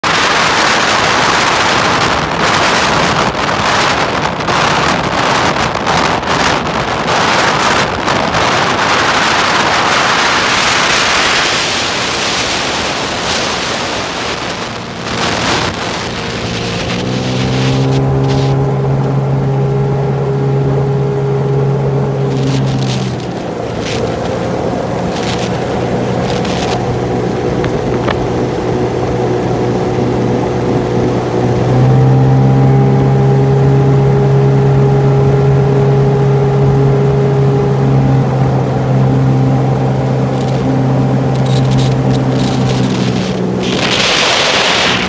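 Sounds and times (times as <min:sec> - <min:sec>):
jet ski engine hum: 0:00.0 - 0:45.0
rushing water: 0:00.0 - 0:45.0
wind buffeting microphone: 0:00.0 - 0:45.0.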